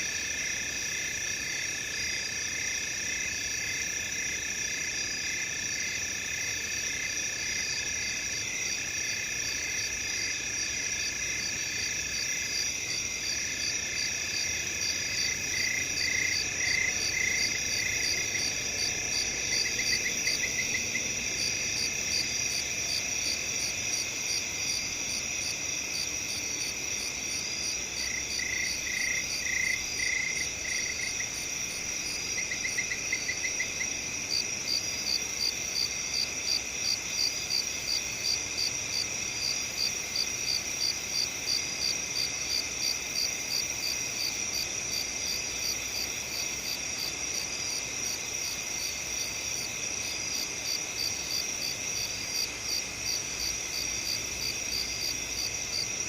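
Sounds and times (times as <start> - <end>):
crickets trilling: 0.0 - 56.0
loud cricket chirp: 0.0 - 56.0.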